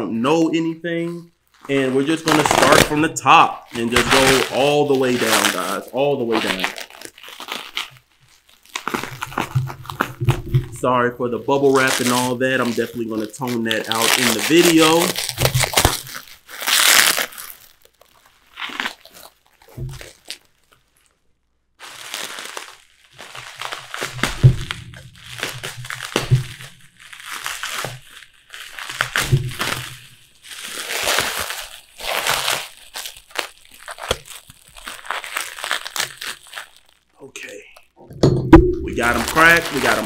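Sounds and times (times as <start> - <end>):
bubble wrap crinkling: 0.3 - 38.0, 38.6 - 40.0.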